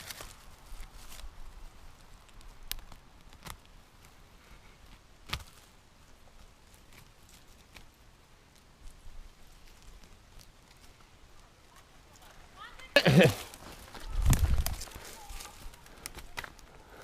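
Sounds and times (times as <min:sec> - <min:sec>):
twigs snapping: 0:00.0 - 0:04.2, 0:04.8 - 0:11.2, 0:13.0 - 0:16.8
footsteps rustling on forest floor: 0:00.0 - 0:17.0.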